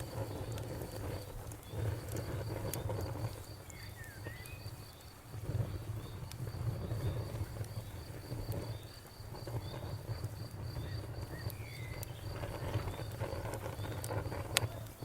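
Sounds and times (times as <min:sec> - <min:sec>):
campfire flames crackling: 0:00.0 - 0:15.0
cricket chirping: 0:00.0 - 0:15.0.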